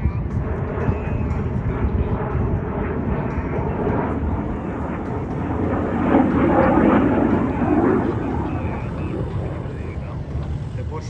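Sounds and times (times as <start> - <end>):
jet roar flying over: 0.0 - 11.0.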